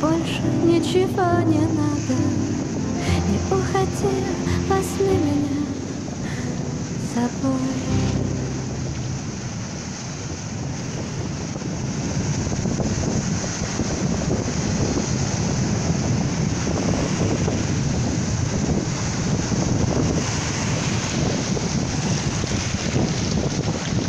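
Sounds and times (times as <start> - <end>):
sea waves breaking on shore: 0.0 - 24.0
wind rumbling on microphone: 0.0 - 24.0.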